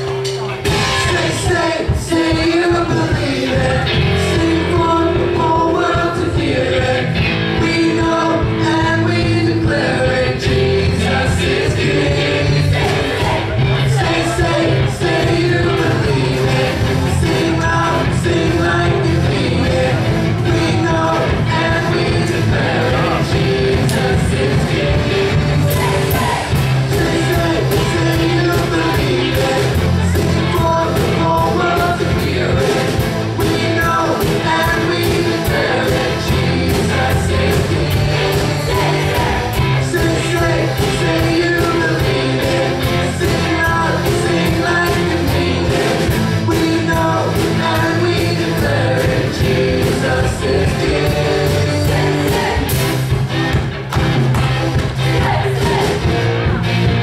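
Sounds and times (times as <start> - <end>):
bass: 0.0 - 57.0
drums: 0.0 - 57.0
singers in unison: 0.7 - 53.2, 54.8 - 56.7.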